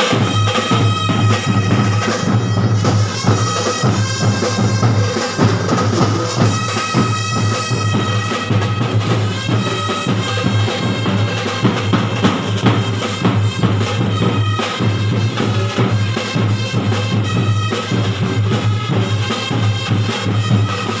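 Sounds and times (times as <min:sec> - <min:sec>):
brass horns holding chords: 0:00.0 - 0:21.0
drumline beating: 0:00.0 - 0:21.0.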